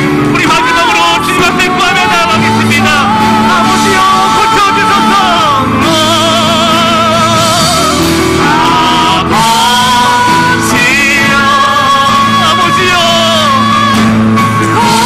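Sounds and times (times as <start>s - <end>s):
acoustic guitar accompaniment: 0.0s - 15.0s
people singing worship song: 0.0s - 15.0s.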